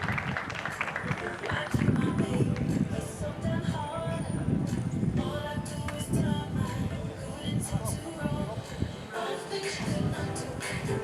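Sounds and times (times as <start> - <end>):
pop music with vocals: 1.0 - 11.0.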